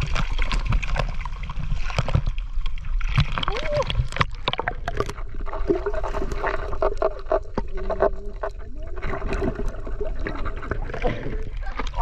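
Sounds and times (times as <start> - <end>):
muffled underwater sloshing: 0.0 - 12.0.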